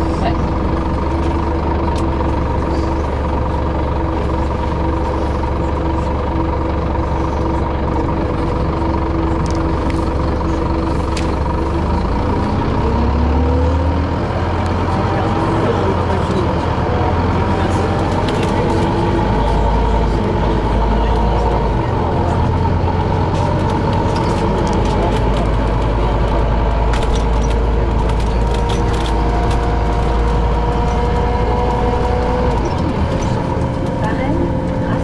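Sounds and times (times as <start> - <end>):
bus engine and road rumble: 0.0 - 35.0
drivetrain whine: 0.0 - 35.0.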